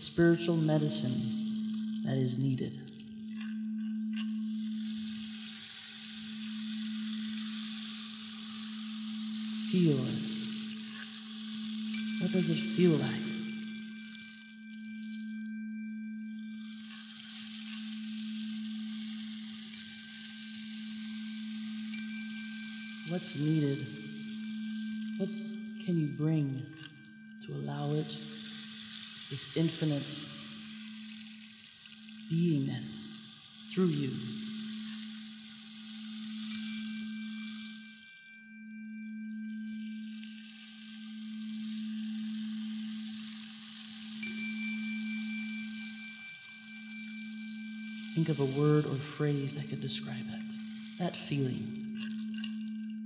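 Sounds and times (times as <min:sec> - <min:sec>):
high ringing tones: 0:00.0 - 0:53.0
rainstick rushing hiss: 0:00.0 - 0:53.0
singing bowl hum: 0:00.0 - 0:53.0.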